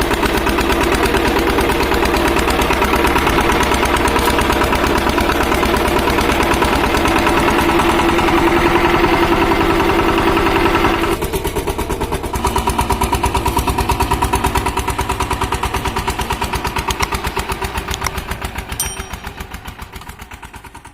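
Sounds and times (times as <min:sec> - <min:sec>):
single-cylinder diesel engine running: 0:00.0 - 0:18.8, 0:19.4 - 0:20.9.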